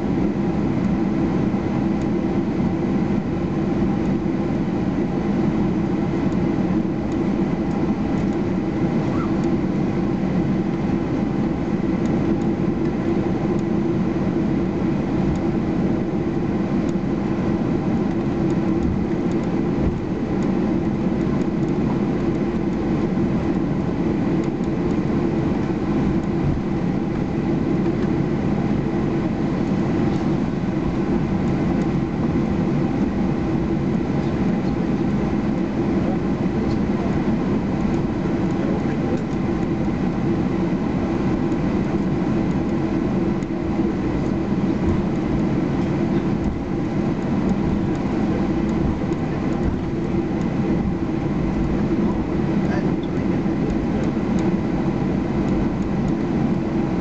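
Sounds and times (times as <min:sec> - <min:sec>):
airplane cabin engine hum: 0:00.0 - 0:57.0.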